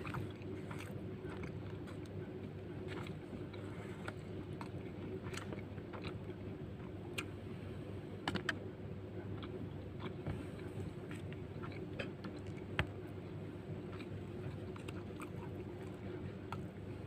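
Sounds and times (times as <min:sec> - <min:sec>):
person chewing food: 0:00.0 - 0:07.5, 0:08.3 - 0:17.0
steady low hum: 0:00.0 - 0:17.0.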